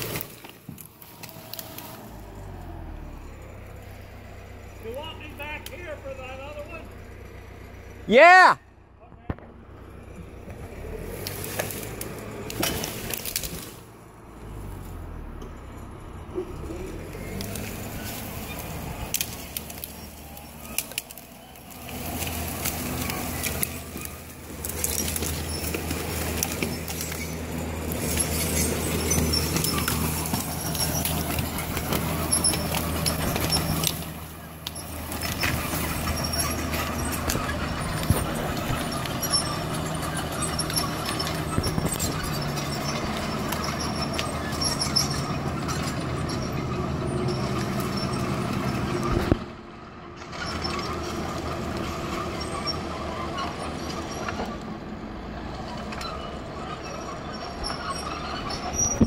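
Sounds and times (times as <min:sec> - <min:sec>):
steel tracks squealing: 0:00.0 - 0:08.6, 0:09.8 - 0:49.4, 0:50.0 - 0:59.0
diesel engine humming: 0:00.0 - 0:59.0.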